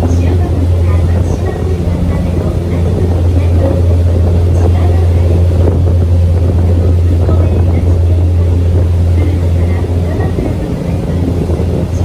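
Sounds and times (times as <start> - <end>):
boat engine droning: 0.0 - 12.0
churning water: 0.0 - 12.0
wind noise: 0.0 - 12.0.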